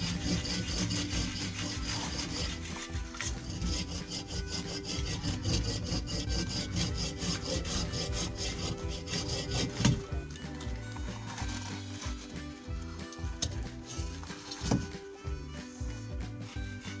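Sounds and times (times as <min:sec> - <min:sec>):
hand saw cutting wood: 0:00.0 - 0:17.0.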